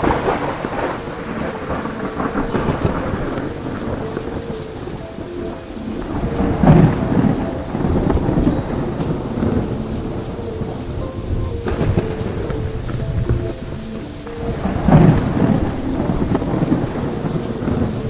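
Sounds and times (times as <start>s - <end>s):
heavy rain: 0.0s - 18.0s
thunder rumbling: 0.0s - 18.0s.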